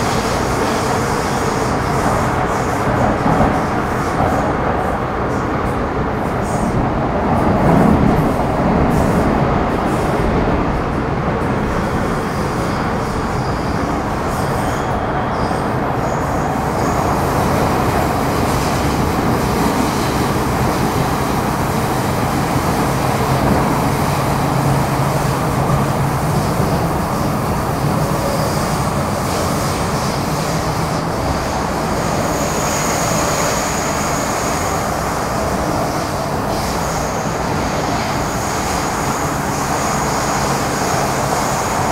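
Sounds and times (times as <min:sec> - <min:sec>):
train wheels and motors rumbling: 0:00.0 - 0:41.9.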